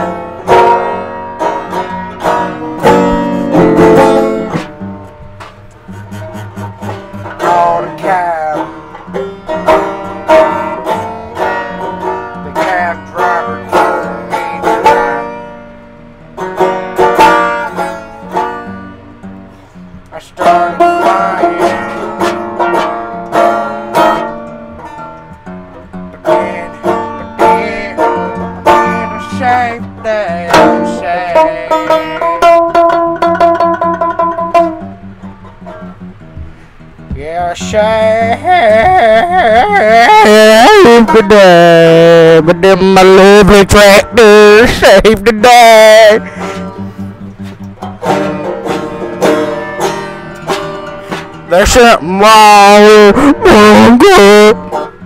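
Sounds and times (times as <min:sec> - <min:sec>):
bass line: 0:00.0 - 0:19.5, 0:20.4 - 0:50.8, 0:51.4 - 0:55.0
plucked string lead: 0:00.0 - 0:55.0.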